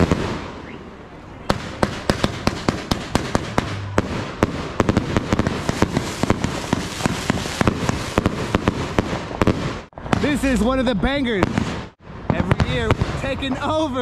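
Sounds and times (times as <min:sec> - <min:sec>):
fireworks banging: 0:00.0 - 0:14.0.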